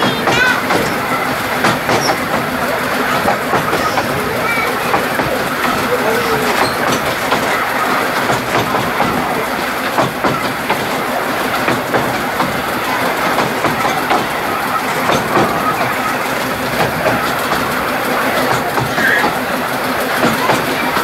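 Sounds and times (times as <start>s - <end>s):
train rumbling along track: 0.0s - 21.0s
wheels clicking over rail joints: 0.0s - 21.0s.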